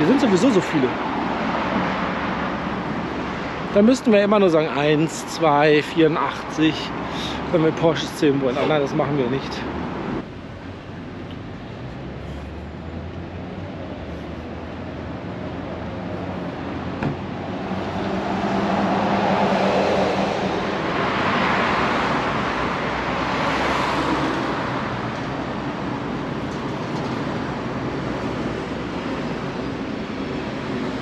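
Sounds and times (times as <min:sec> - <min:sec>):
cars driving past: 0:00.0 - 0:31.0
traffic hum: 0:00.0 - 0:31.0.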